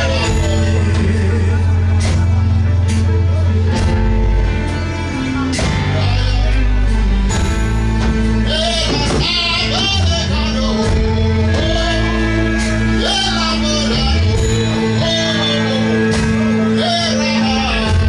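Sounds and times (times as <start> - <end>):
person singing: 0.0 - 18.0
worship music bass and chords: 0.0 - 18.0.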